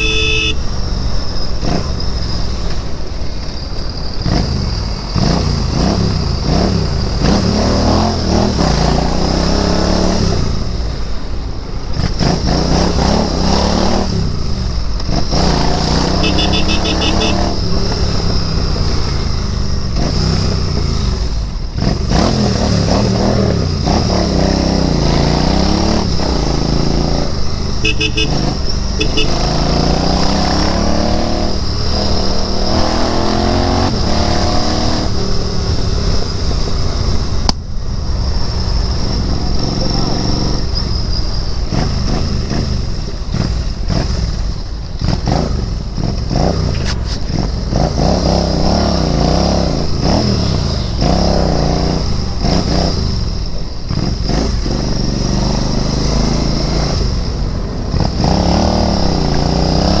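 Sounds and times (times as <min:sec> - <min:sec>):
motorcycle engine revving: 0:00.0 - 0:02.8, 0:04.2 - 1:00.0.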